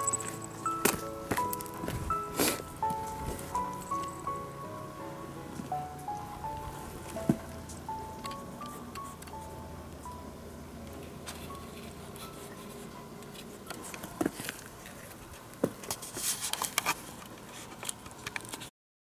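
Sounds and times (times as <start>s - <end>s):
faint background music: 0.0s - 17.3s.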